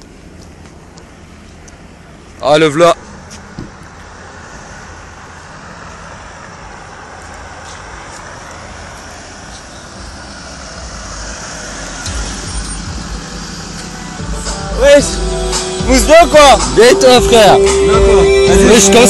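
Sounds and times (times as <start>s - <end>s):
car engine and tyre rumble: 0.0s - 19.0s
street traffic noise: 0.0s - 19.0s.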